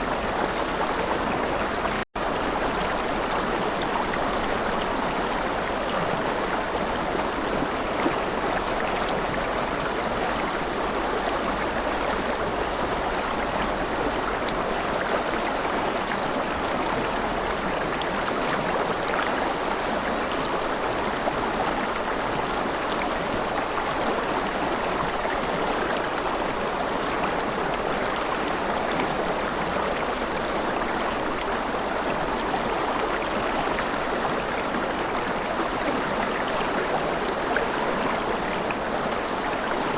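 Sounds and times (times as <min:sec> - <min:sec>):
river water flowing and splashing: 0:00.0 - 0:39.9.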